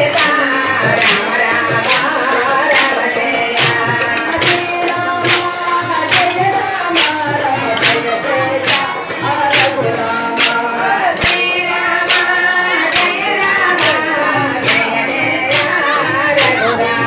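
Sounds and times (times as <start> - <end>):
group singing over music: 0.0 - 17.0
sharp percussive beat: 0.0 - 17.0.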